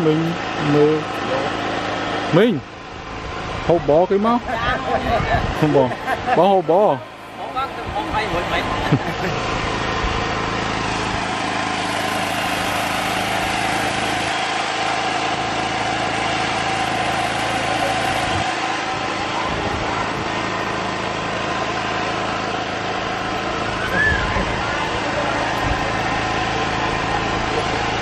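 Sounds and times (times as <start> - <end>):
small engine humming: 0.0 - 28.0.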